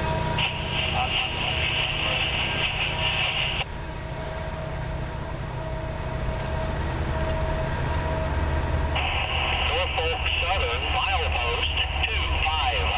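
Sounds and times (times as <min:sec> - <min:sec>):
diesel locomotive engines rumbling: 0:00.0 - 0:12.9.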